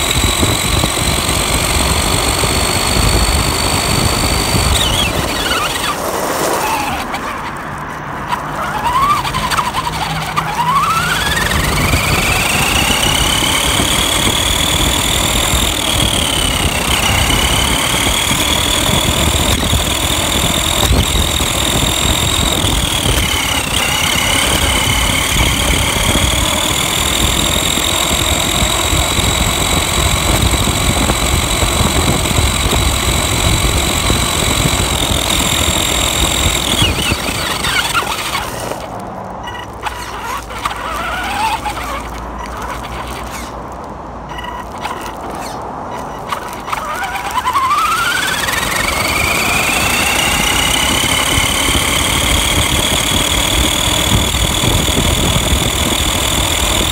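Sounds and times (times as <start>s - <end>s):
electric motor and gear whine: 0.0s - 56.9s
tyres and chassis rattle: 0.0s - 56.9s.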